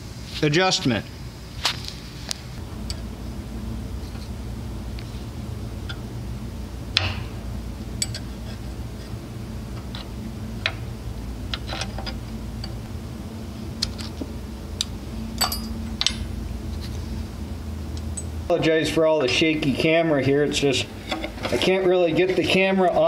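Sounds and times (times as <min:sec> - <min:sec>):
low hum: 0:02.6 - 0:21.6.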